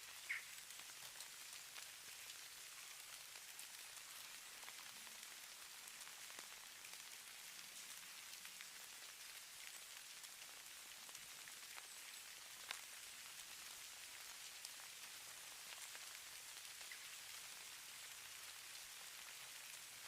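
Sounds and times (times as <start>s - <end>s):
faint steady high hiss: 0.0s - 20.0s
snowflakes ticking softly: 0.0s - 20.0s.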